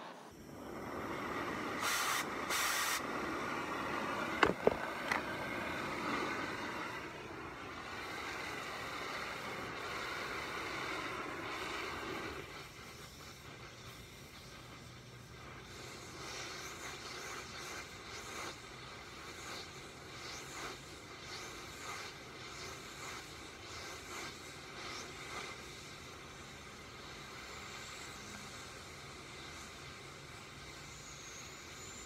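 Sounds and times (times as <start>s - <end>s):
torch pops: 0.0s - 30.8s
cutting torch hissing: 0.0s - 32.0s.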